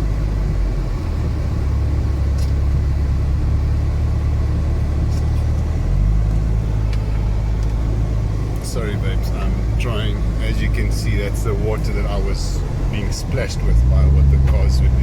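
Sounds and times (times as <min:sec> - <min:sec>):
car driving heard from inside: 0:00.0 - 0:15.0.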